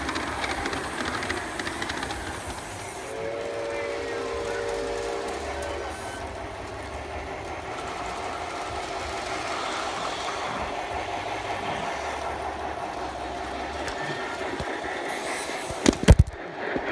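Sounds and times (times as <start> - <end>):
model trains humming and rattling: 0.0 - 16.9.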